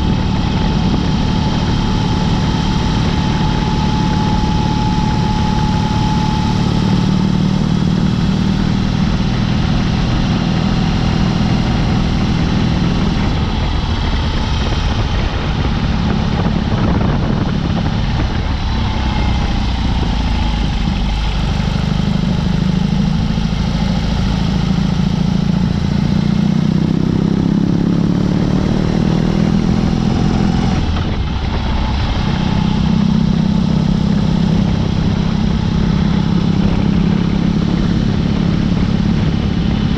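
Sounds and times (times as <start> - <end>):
motorcycle engine revving: 0.0 - 39.9
wind rumble: 0.0 - 39.9.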